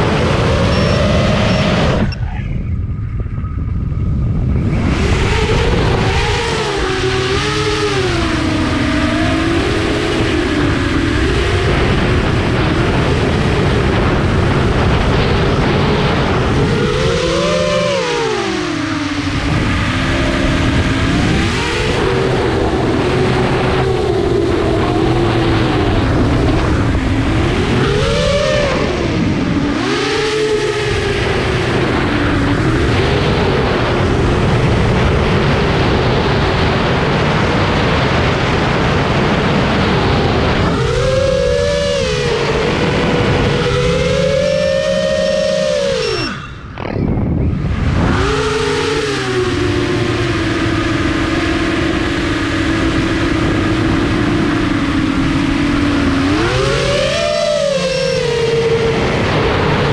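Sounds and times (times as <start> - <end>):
drone motors whining: 0.0 - 59.9
wind rush on microphone: 0.0 - 59.9.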